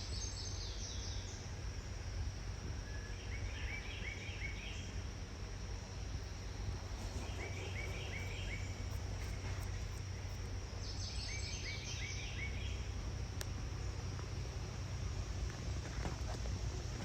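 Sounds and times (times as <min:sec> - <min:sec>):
low outdoor rumble: 0:00.0 - 0:17.0
high insect buzz: 0:00.2 - 0:17.0.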